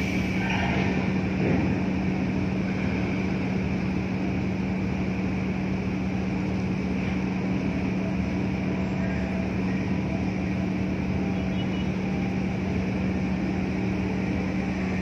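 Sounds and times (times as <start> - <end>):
ship machinery drone: 0.0 - 15.0.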